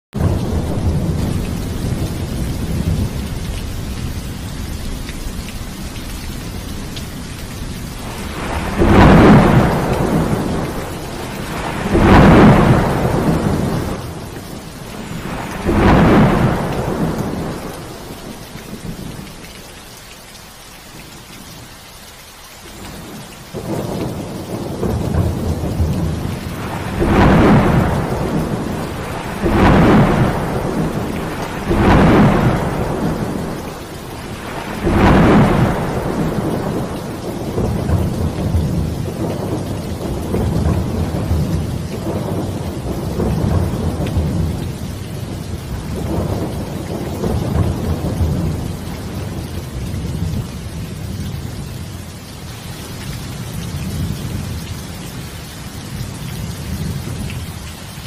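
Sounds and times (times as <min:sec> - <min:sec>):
heavy rain falling: 0:00.1 - 0:58.0
thunder rumbling: 0:00.2 - 0:19.2, 0:22.9 - 0:51.8.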